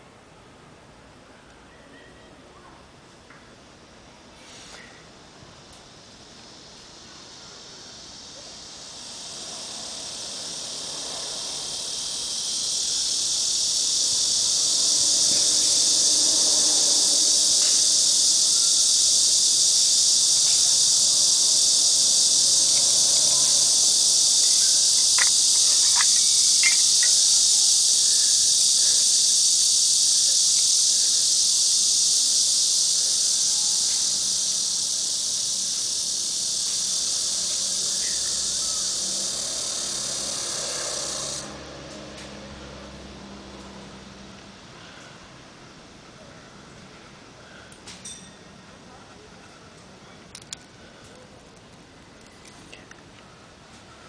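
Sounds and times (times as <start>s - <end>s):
cicadas buzzing: 3.6s - 54.0s.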